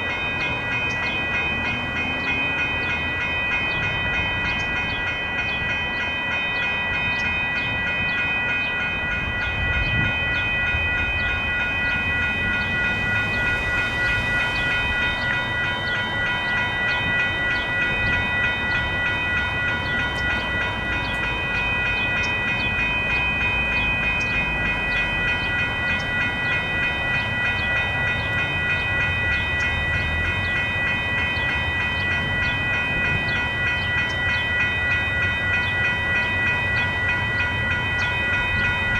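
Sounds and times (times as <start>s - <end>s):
passing train rumble: 0.0s - 38.9s
railroad crossing bells ringing: 0.0s - 38.9s.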